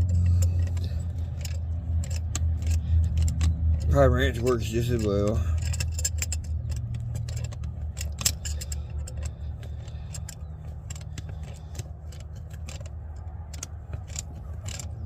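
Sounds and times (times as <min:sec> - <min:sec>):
metallic clicks of hand tools: 0:00.0 - 0:15.0
steady low hum: 0:00.0 - 0:15.0.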